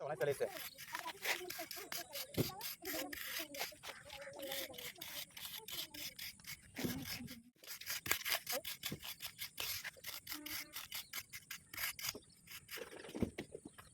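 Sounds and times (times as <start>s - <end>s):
scraping and rubbing strokes: 0.2s - 13.4s.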